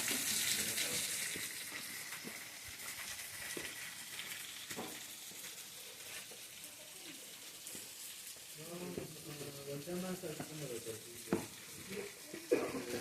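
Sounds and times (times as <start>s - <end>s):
running water hiss: 0.0s - 13.0s.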